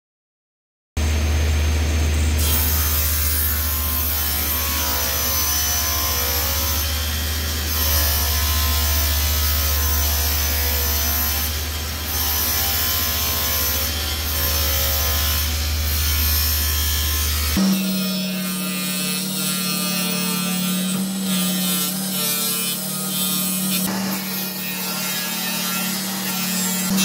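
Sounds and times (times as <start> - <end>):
table saw cutting plywood: 1.0 - 27.0.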